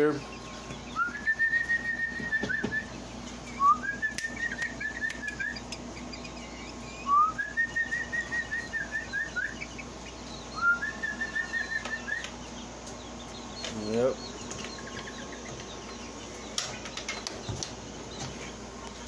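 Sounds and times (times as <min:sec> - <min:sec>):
bird calling: 0:00.0 - 0:19.0.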